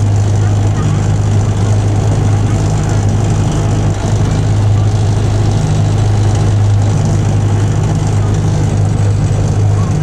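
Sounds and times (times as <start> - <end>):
low hum: 0.0 - 10.0
railcar rumbling running noise: 0.0 - 10.0.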